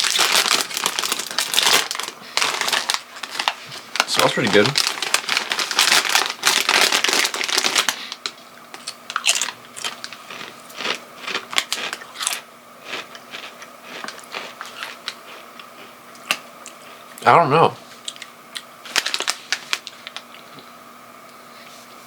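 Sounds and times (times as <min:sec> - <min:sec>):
chip bag crinkling: 0:00.0 - 0:16.8, 0:18.8 - 0:20.6
chips crunching: 0:00.0 - 0:17.0, 0:18.0 - 0:20.7.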